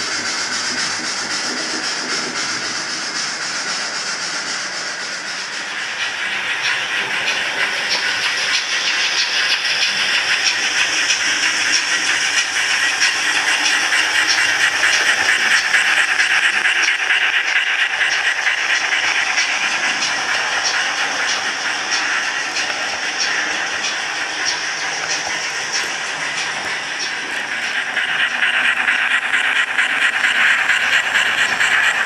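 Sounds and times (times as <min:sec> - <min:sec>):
model locomotive steam chuffing: 0:00.0 - 0:32.0.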